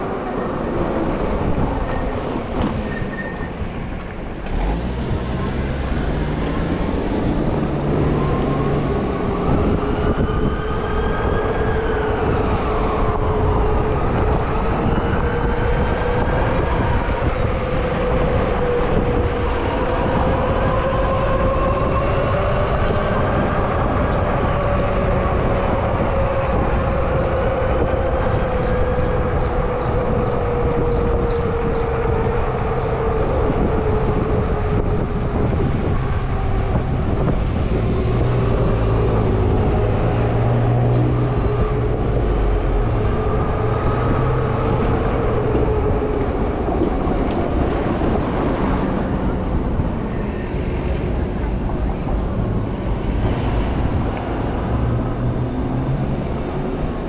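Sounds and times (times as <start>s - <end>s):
wind and tyres rumbling: 0.0s - 57.0s.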